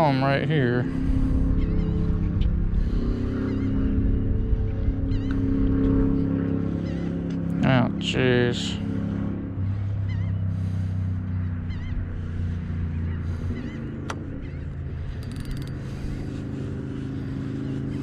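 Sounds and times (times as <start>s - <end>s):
steady low drone: 0.0s - 18.0s
wavy bird-like calls: 0.0s - 18.0s.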